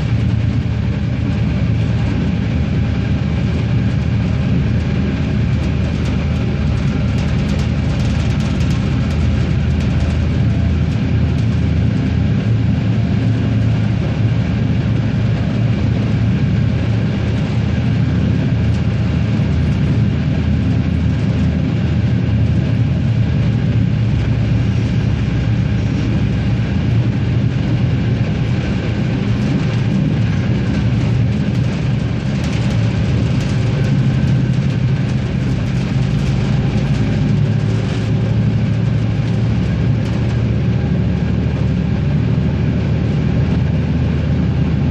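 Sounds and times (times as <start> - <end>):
diesel engine running: 0.0 - 44.9
wheels rumbling on rail: 0.0 - 44.9.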